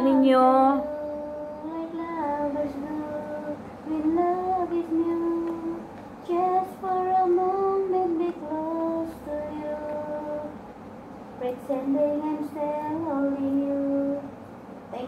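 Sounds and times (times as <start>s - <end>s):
woman singing slow melody: 0.0s - 10.6s, 11.4s - 15.0s.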